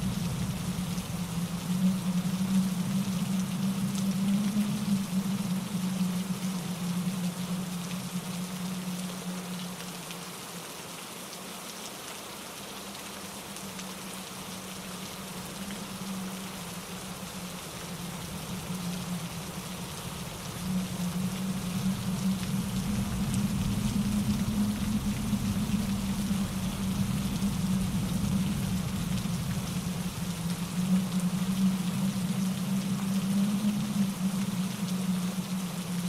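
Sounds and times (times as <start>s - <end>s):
low rumble: 0.0s - 8.3s, 15.3s - 36.0s
rain falling through trees: 0.0s - 36.0s
stream tumbling over rocks: 0.0s - 36.0s
wind: 0.0s - 36.0s.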